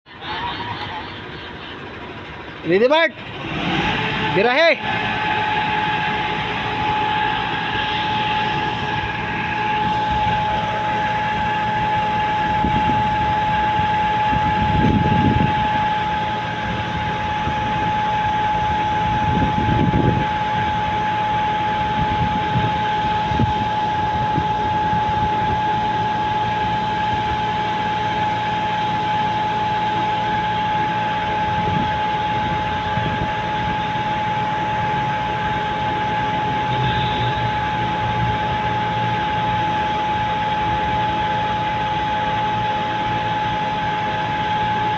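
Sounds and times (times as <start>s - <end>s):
truck engine and road noise: 0.0s - 44.9s
high-pitched whine: 0.1s - 44.9s.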